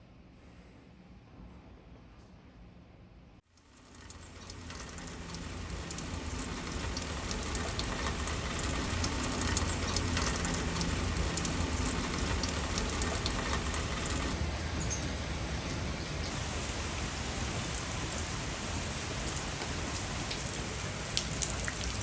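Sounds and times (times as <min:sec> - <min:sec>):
rain pattering: 0:03.7 - 0:22.0.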